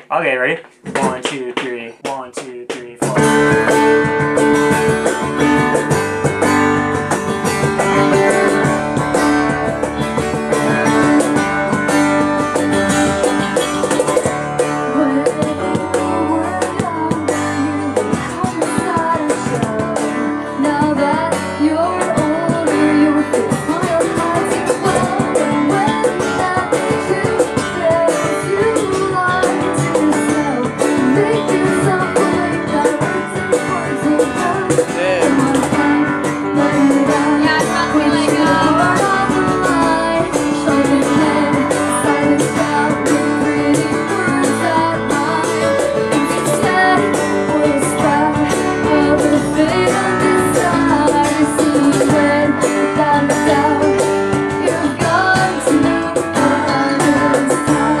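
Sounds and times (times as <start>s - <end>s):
guitar: 0.0s - 58.0s
woman singing: 2.9s - 58.0s
electric bass: 3.0s - 58.0s
keyboard: 3.0s - 58.0s.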